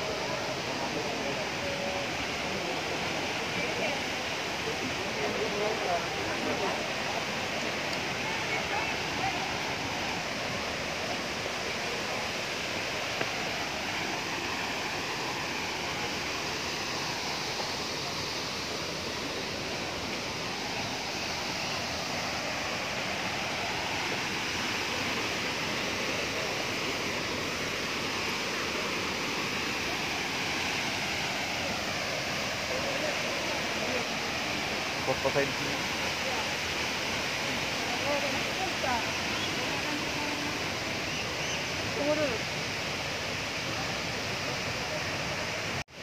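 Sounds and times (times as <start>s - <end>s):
waterfall crashing into pool: 0.0s - 46.0s.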